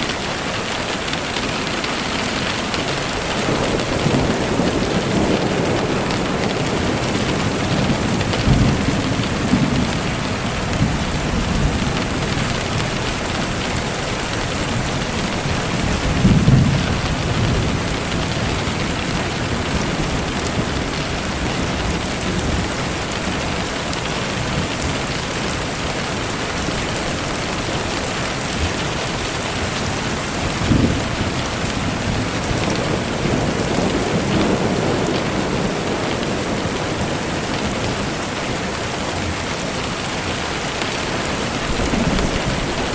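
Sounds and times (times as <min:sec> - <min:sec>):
steady rain falling: 0:00.0 - 0:42.9
thunder rumbling: 0:00.1 - 0:42.9.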